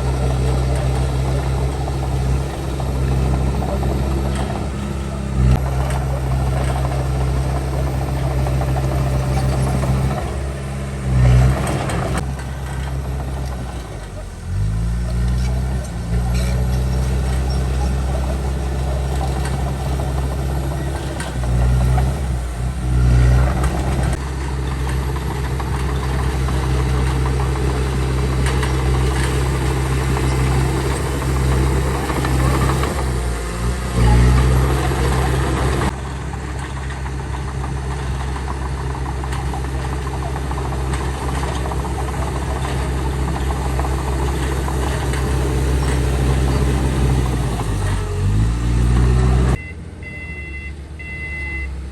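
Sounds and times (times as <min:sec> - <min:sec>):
diesel engine working under load: 0:00.0 - 0:51.9.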